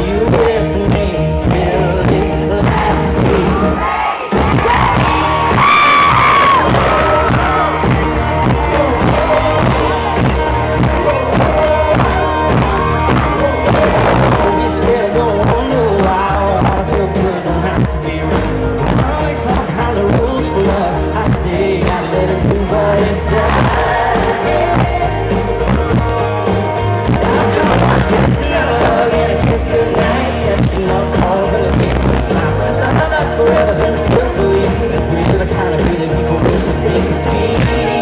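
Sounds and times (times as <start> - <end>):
person singing: 0.0 - 38.0
rock band playing live: 0.0 - 38.0.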